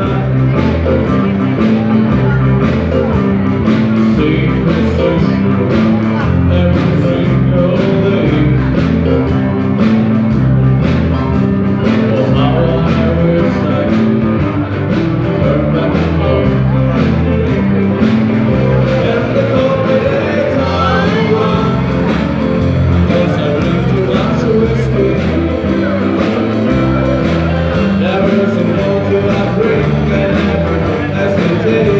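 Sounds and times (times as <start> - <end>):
band playing rock music: 0.0 - 31.9
person singing: 0.0 - 31.9
steady drum beat: 0.0 - 31.9.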